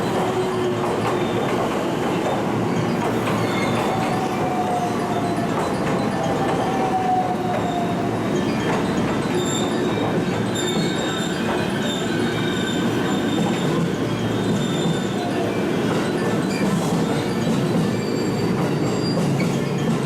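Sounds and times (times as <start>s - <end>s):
train wheels rumbling on rail: 0.0s - 20.0s
high wheel squeals: 2.7s - 19.9s.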